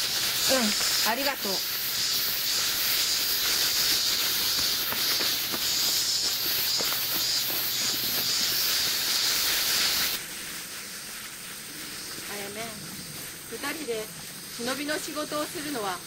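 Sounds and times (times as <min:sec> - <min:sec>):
cicada chorus: 0:00.0 - 0:16.0.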